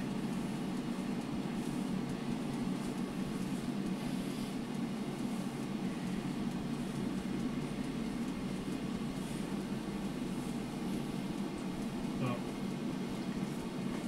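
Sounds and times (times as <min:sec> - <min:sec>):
air fryer fan humming: 0:00.0 - 0:14.0.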